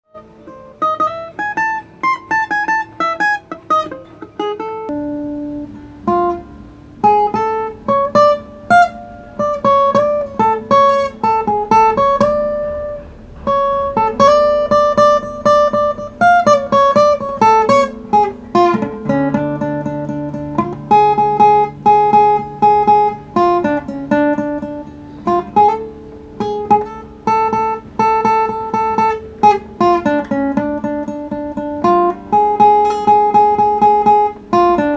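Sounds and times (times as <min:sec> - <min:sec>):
plucked string instrument melody: 0:00.0 - 0:34.9.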